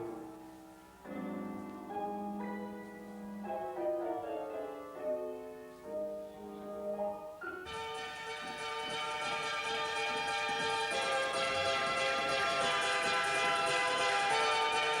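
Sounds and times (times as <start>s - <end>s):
piano chords and melody: 0.0s - 15.0s.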